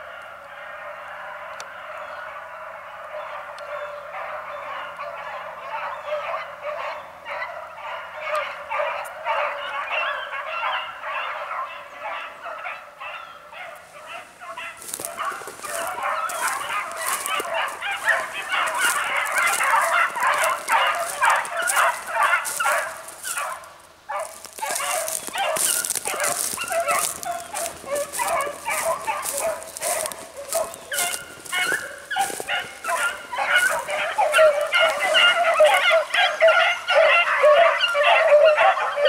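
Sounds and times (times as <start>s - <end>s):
hounds baying: 0.1s - 39.0s.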